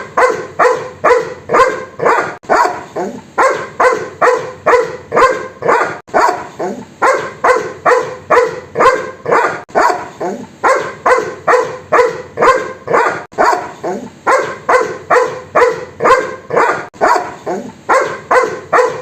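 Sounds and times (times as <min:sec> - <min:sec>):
dog barking: 0:00.0 - 0:19.0.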